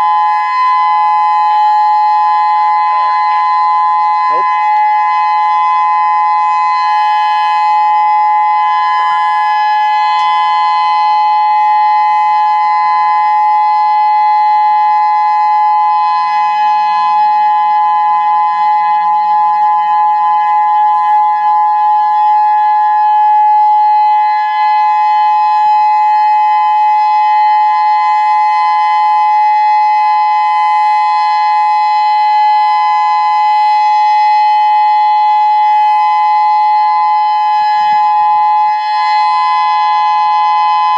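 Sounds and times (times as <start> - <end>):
warning siren two-note tone: 0.0 - 40.9.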